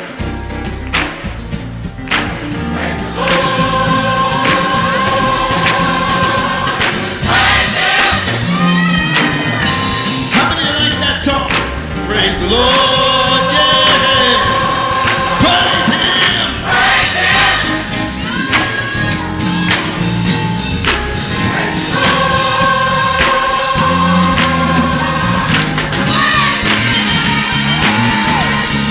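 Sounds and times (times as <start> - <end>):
band accompaniment: 0.0 - 28.9
drum strokes: 0.0 - 28.9
gospel choir singing: 0.0 - 28.9.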